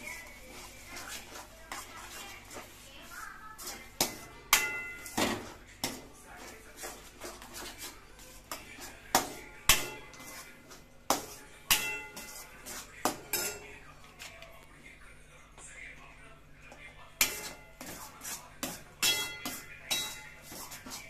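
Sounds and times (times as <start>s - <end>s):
spatula scraping steel pan: 0.0s - 13.6s, 17.2s - 21.0s.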